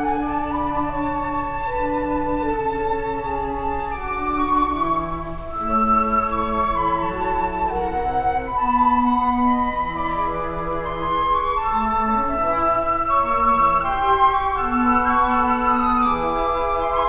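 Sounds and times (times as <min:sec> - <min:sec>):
flute ensemble playing: 0:00.0 - 0:17.0.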